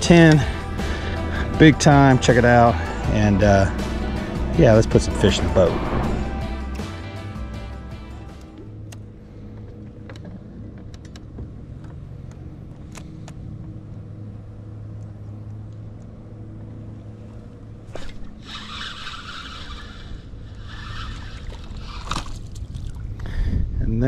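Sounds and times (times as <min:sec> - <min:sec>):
trolling motor hum: 0:00.0 - 0:23.2.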